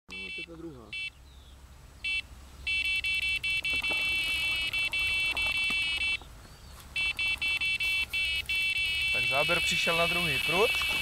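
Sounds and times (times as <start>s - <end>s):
bite alarm bleeping: 0.1s - 1.2s, 2.0s - 6.2s, 7.0s - 11.0s.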